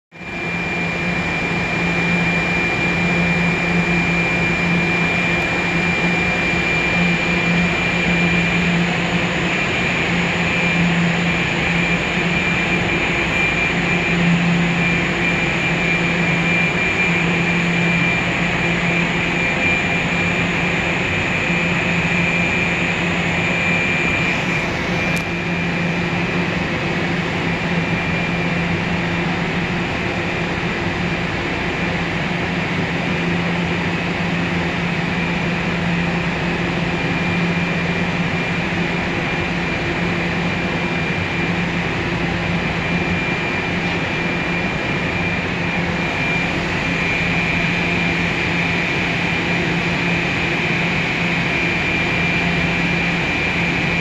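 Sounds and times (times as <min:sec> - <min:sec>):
high-pitched whine: 0:00.2 - 0:54.0
machinery hum: 0:00.2 - 0:54.0.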